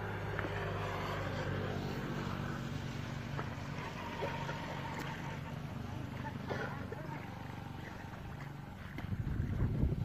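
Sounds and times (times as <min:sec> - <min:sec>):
small motor droning: 0:00.0 - 0:10.0.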